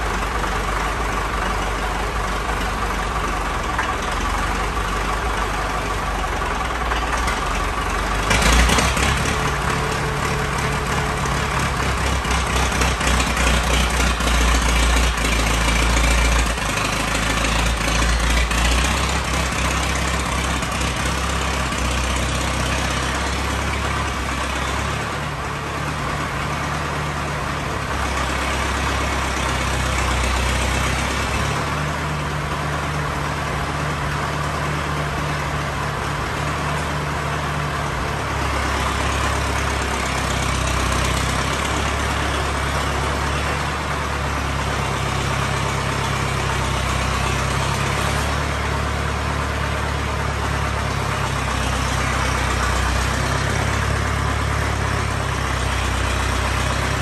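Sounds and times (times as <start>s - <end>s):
crawler diesel engine running: 0.0s - 57.0s.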